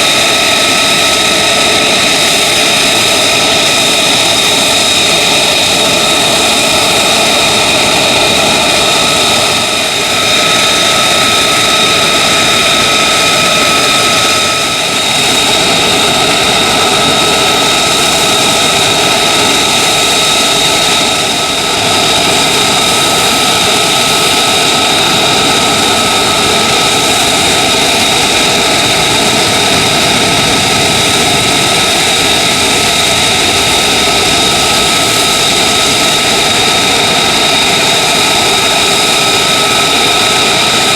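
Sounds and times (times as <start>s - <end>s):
high engine whines: 0.0s - 40.9s
jet engine running: 0.0s - 40.9s.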